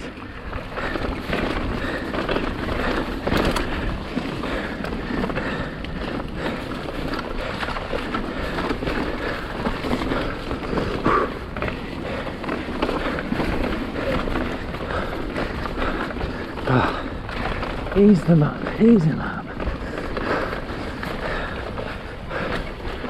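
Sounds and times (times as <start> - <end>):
bike clattering over bumps: 0.0 - 23.0
tyres rolling over dirt and stones: 0.0 - 23.0.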